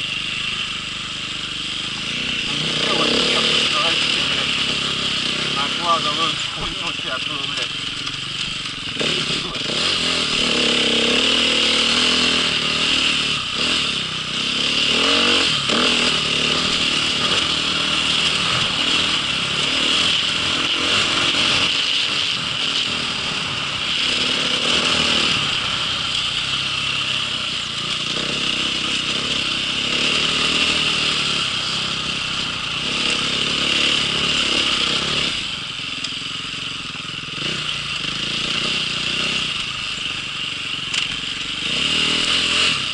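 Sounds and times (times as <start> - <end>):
off-road vehicle engine revving: 0.0 - 42.9.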